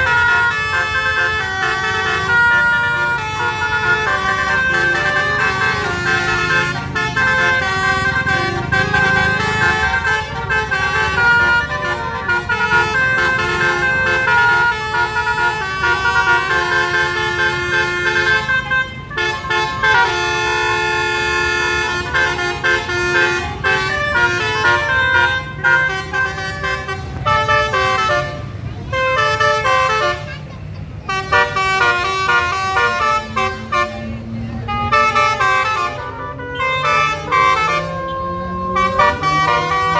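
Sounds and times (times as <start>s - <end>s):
musical air horn playing a tune: 0.0s - 39.9s
vehicle engines running: 0.0s - 39.9s.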